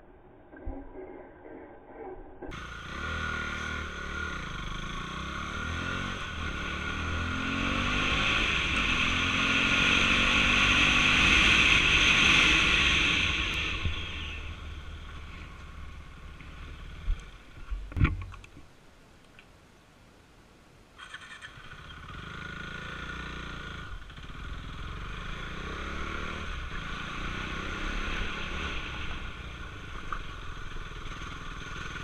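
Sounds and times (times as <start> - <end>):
motorcycle engine running: 2.5 - 18.1, 21.0 - 32.0.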